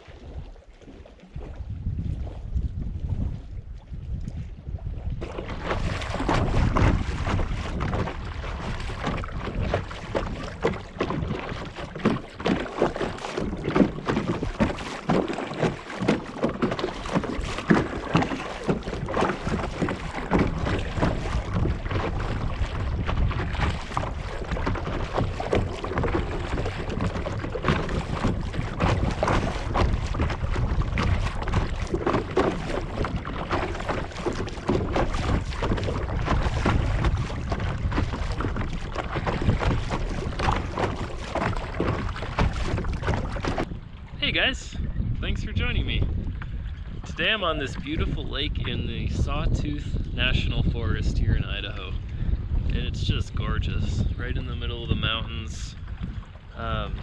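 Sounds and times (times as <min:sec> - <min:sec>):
paddle strokes splashing water: 0:00.0 - 0:57.0
wind rumbling on microphone: 0:00.0 - 0:57.0.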